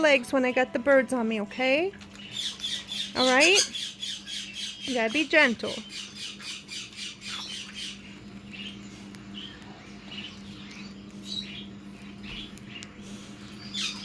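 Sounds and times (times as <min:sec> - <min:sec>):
steady low hum: 0:00.0 - 0:14.0
parrots chirping softly: 0:02.0 - 0:14.0.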